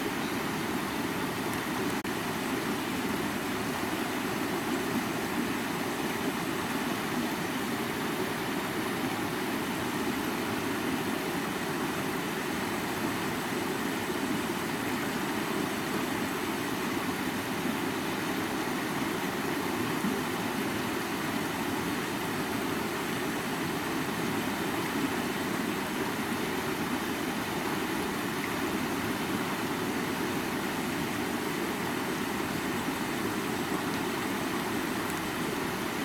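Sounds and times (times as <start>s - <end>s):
river water rushing: 0.0s - 36.0s.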